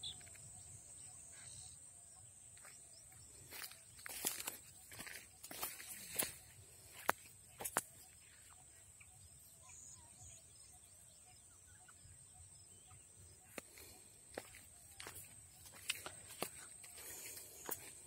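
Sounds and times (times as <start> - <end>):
faint bird-like chirps: 0.0 - 18.0.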